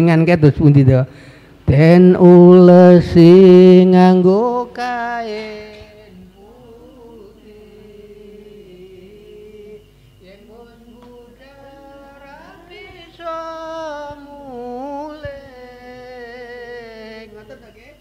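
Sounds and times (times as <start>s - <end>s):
slow chanted singing: 1.2s - 18.0s.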